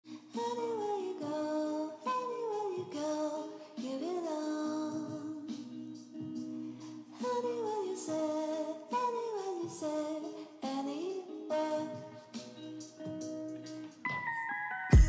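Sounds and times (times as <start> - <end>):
woman singing: 0.1 - 13.1
background music: 1.9 - 15.0.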